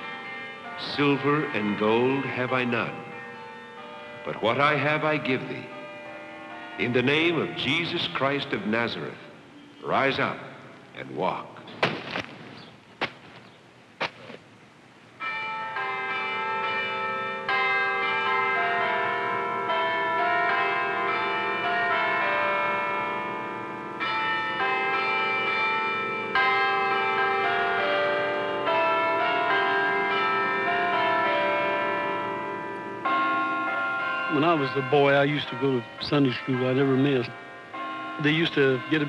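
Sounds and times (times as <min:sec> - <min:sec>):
church bells ringing: 0:00.0 - 0:11.6, 0:15.2 - 0:39.0.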